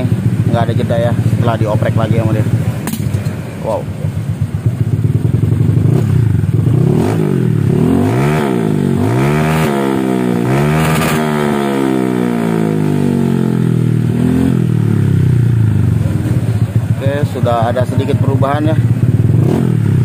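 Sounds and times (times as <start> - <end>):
scooter engine revving: 0.0 - 20.0.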